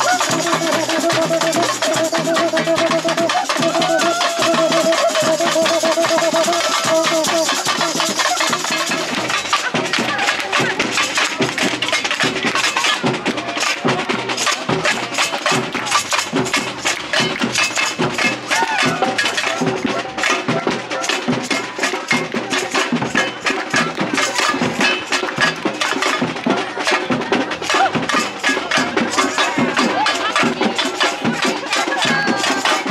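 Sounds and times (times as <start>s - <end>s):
samba percussion band: 0.0s - 32.9s.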